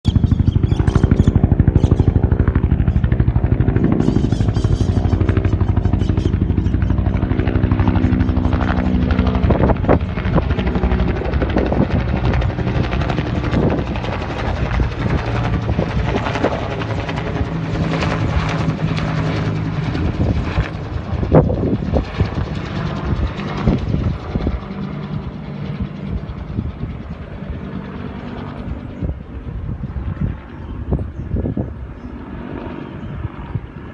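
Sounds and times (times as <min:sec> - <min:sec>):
helicopter rotor beating: 0:00.0 - 0:33.9.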